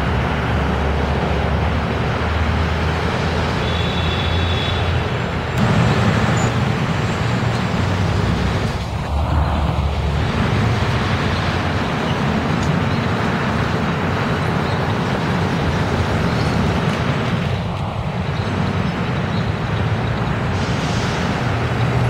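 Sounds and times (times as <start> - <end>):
bus engine running: 0.0 - 22.0
cars driving past: 0.0 - 22.0.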